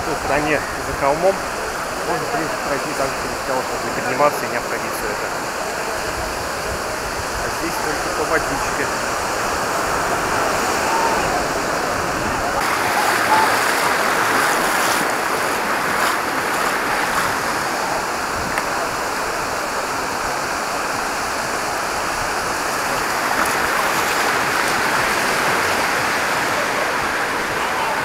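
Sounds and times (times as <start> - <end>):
surf rushing onto beach: 0.0 - 28.0.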